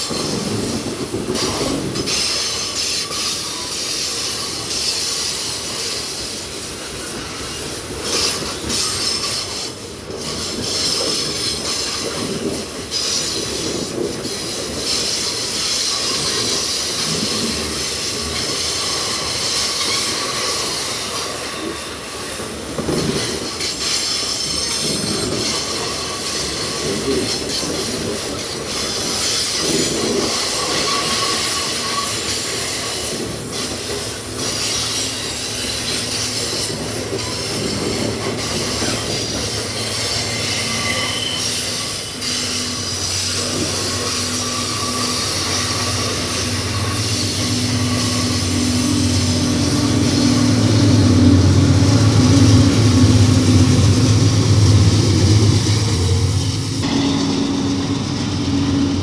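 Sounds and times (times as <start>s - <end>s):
diesel locomotive hum: 0.0s - 59.0s
rumble and hiss of wagons: 0.0s - 59.0s
train wheels squealing on rails: 0.0s - 59.0s.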